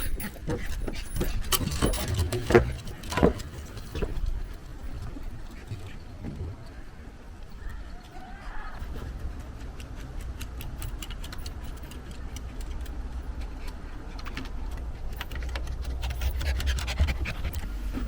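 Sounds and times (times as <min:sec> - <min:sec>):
irregular clicking and scratching: 0:00.0 - 0:18.0.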